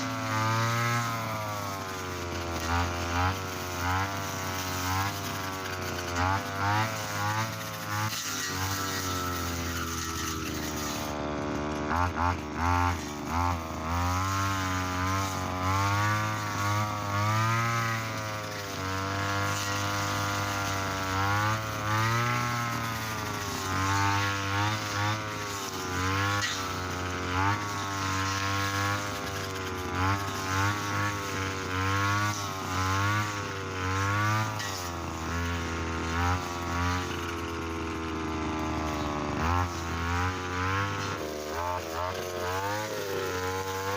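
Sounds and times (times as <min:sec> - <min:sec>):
brush cutter engine under load: 0:00.0 - 0:43.9
trimmer line cutting grass: 0:00.0 - 0:43.9.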